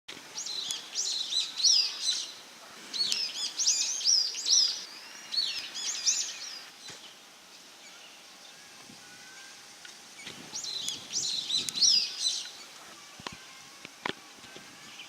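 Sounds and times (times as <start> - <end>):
songbird singing: 0.1 - 15.0.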